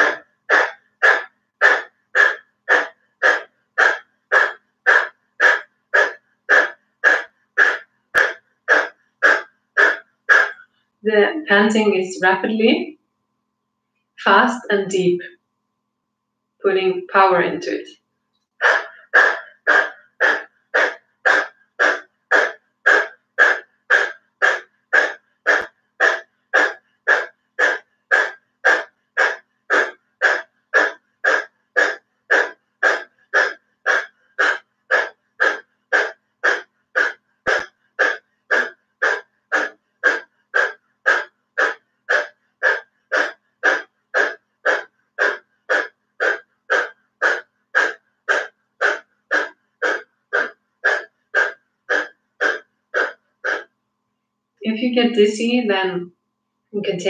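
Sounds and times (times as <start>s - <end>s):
woman panting: 0.0s - 10.8s, 18.6s - 53.7s.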